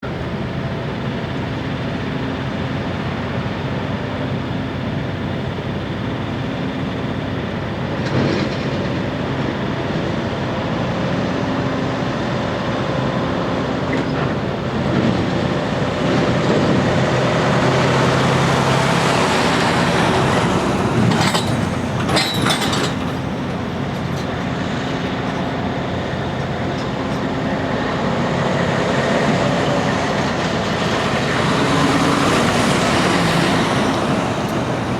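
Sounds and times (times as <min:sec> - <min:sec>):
heavy diesel engines running: 0:00.0 - 0:34.9.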